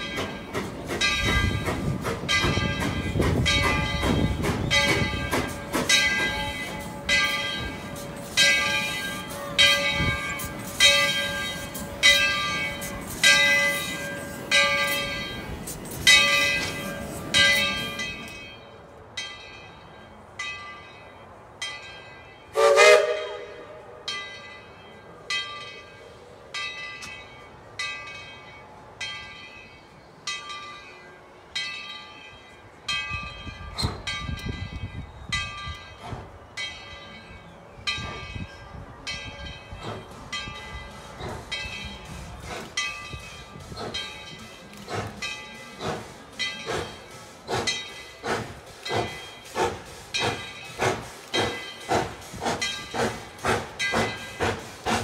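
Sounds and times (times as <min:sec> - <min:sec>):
steam locomotive exhaust beats: 0:00.0 - 0:18.5, 0:22.5 - 0:28.3, 0:32.8 - 0:36.8, 0:37.8 - 0:55.0
steam locomotive bell ringing: 0:00.0 - 0:55.0.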